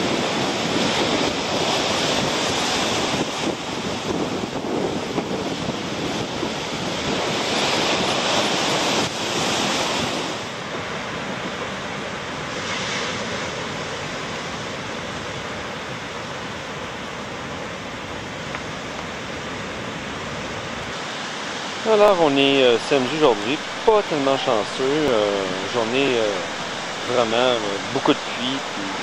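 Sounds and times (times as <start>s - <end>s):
surf breaking on rocky shore: 0.0s - 29.0s.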